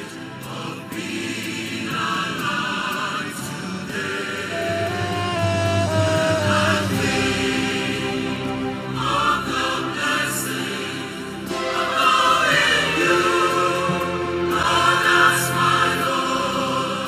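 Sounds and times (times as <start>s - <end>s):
choir singing gospel: 0.0s - 17.0s.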